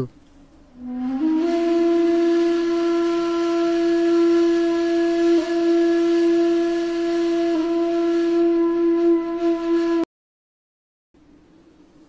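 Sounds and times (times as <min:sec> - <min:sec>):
flute note held steadily: 0:00.0 - 0:10.1.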